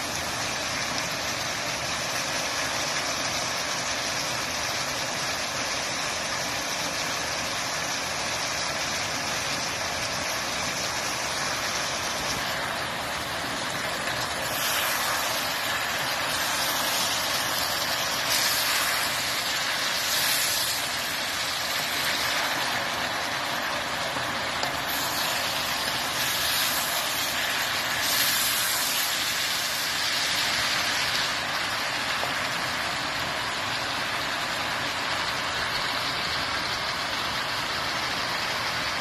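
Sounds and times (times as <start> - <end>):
food sizzling in a pan: 0.0 - 36.1.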